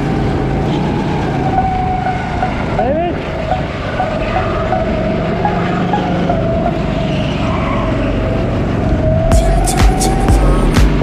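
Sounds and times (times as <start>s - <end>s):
go-kart motor running: 0.0s - 9.0s
road and tyre noise: 0.0s - 11.0s.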